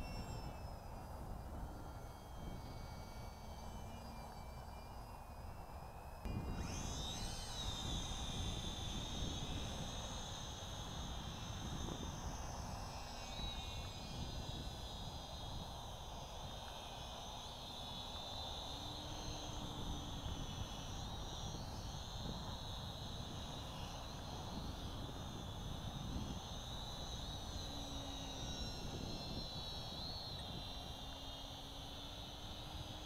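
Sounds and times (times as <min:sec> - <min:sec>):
model plane motor whining: 0:00.0 - 0:33.0
wind rumble on microphone: 0:00.0 - 0:33.0.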